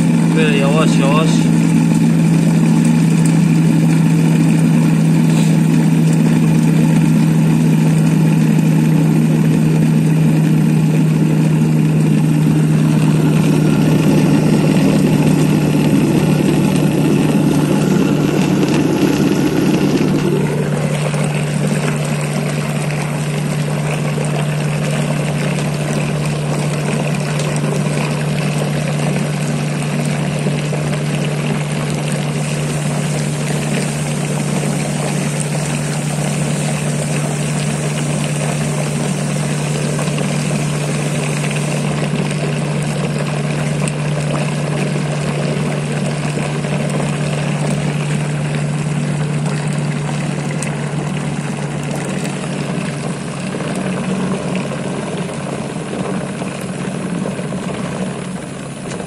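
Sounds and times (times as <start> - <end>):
electric mixer humming: 0.0 - 52.8.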